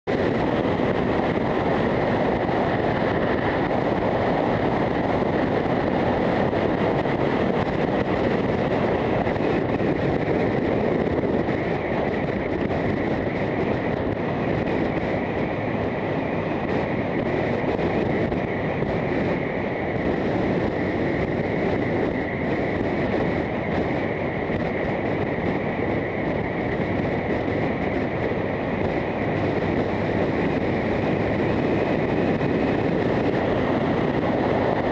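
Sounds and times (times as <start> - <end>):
wind noise on camera: 0.0 - 34.9.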